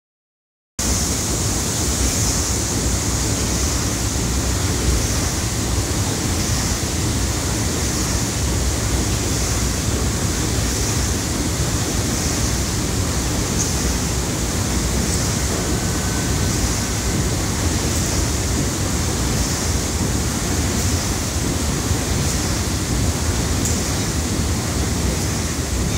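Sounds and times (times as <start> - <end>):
steam engine hissing and rumbling: 0.8 - 25.9.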